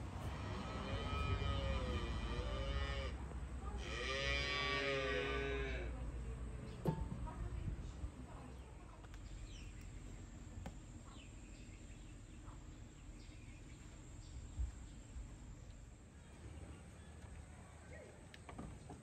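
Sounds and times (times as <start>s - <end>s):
low steady rumble: 0.0s - 17.7s.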